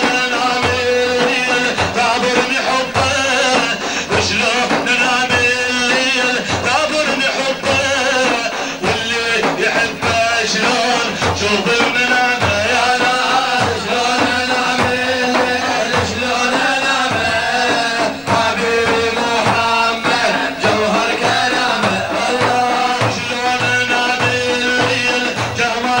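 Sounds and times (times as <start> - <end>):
devotional singing: 0.0 - 26.0
steady drum beat: 0.0 - 26.0.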